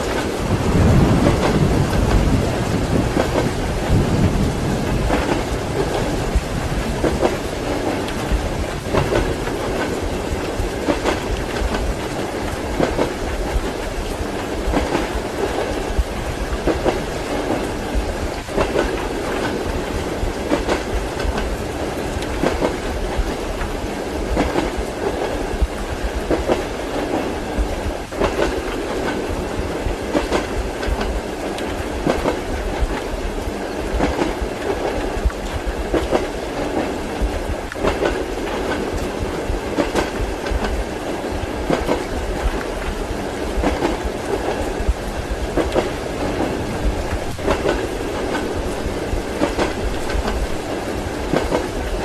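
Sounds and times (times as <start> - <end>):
train rumble: 0.0 - 52.0
train wheels clicking over joints: 0.0 - 52.0.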